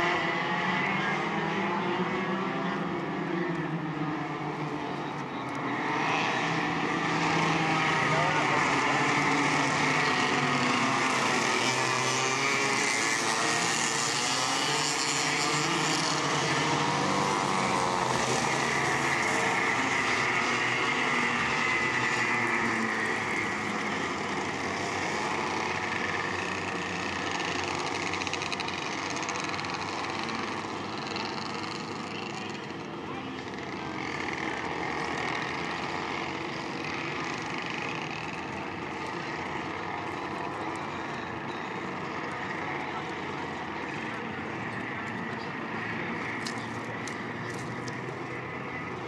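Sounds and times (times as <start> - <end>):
kart engines revving: 0.0 - 49.0.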